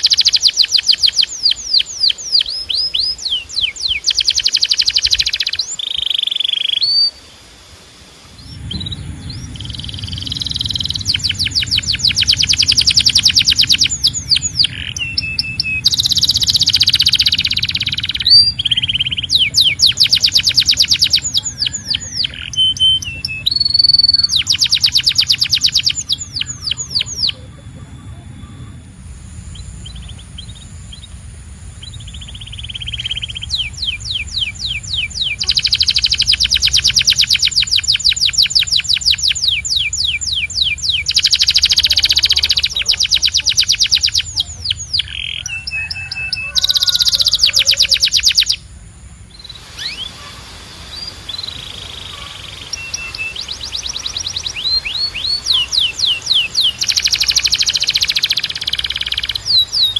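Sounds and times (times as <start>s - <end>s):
canary singing trills: 0.0s - 7.4s, 8.2s - 59.9s
steady low hum: 7.1s - 45.8s, 46.4s - 59.9s.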